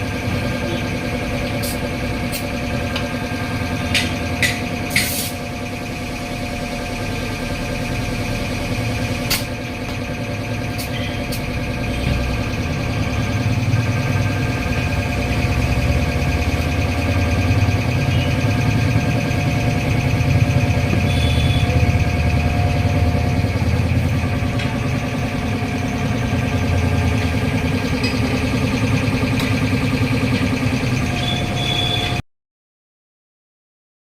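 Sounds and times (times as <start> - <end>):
engine humming steadily: 0.0 - 32.2.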